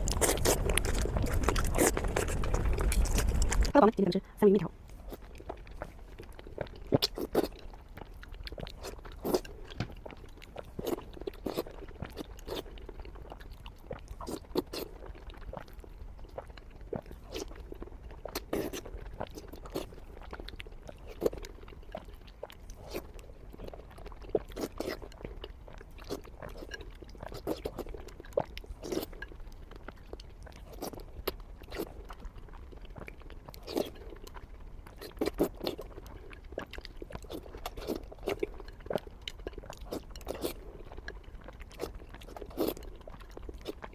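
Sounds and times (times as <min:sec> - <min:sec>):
chewing mouth clicks and smacks: 0:00.0 - 0:03.8, 0:04.9 - 0:43.9.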